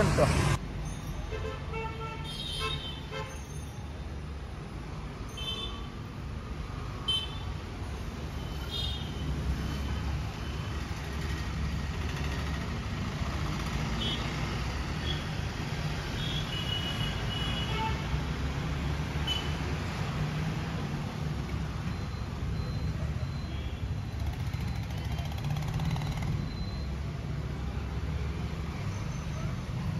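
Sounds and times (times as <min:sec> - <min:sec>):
rumble of passing vehicles: 0:00.0 - 0:02.0, 0:03.0 - 0:29.9.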